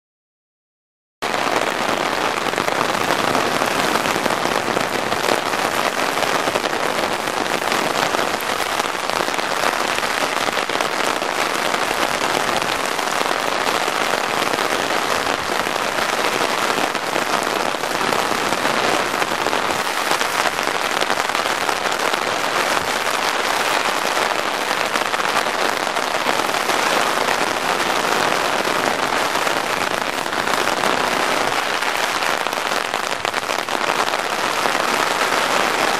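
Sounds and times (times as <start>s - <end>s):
rain drumming on umbrella: 1.2s - 35.9s
rain on wet pavement: 1.2s - 35.9s.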